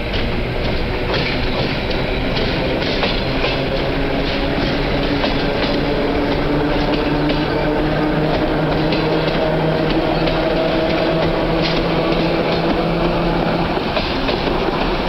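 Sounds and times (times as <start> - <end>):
train cars rumbling: 0.0 - 15.0
wheels clicking over rails: 0.0 - 15.0.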